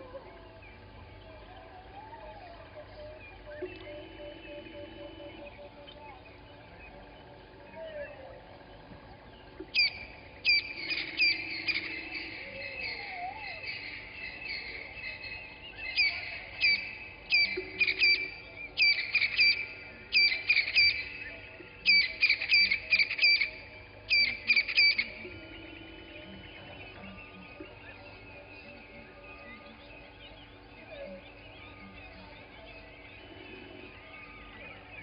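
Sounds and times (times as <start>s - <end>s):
faint birds: 0.0s - 35.0s.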